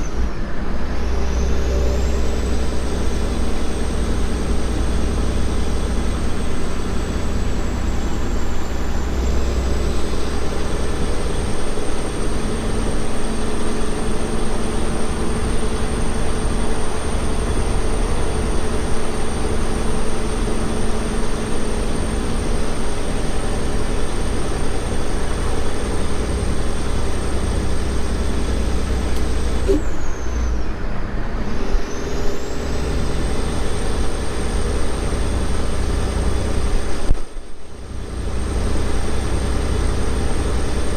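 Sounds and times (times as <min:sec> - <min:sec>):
thin high whine: 0:00.0 - 0:30.8, 0:31.4 - 0:40.9
diesel truck engine running: 0:00.0 - 0:40.9.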